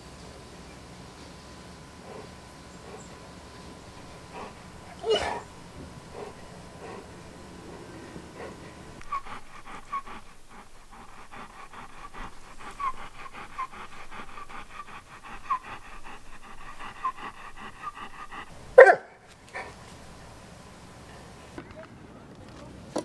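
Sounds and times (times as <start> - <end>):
dog panting: 1.2 - 21.6.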